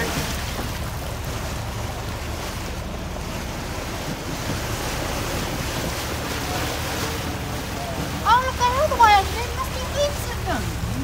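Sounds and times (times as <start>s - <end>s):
sea water rushing along hull: 0.0s - 11.0s
wind buffeting microphone: 0.0s - 11.0s.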